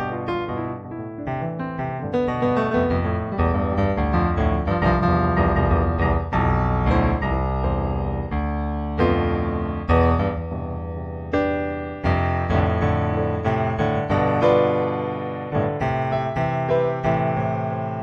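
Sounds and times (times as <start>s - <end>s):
solo piano chords: 0.0s - 18.0s.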